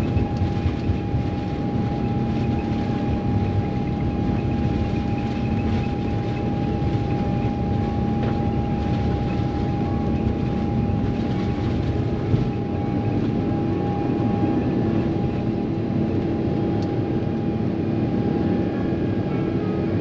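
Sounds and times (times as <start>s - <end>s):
high engine whine: 0.0s - 20.0s
jet engines humming and rumbling: 0.0s - 20.0s.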